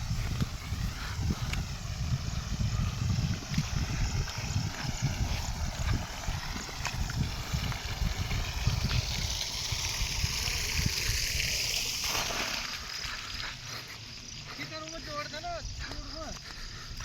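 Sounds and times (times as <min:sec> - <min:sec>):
wind buffeting microphone: 0:00.0 - 0:13.7.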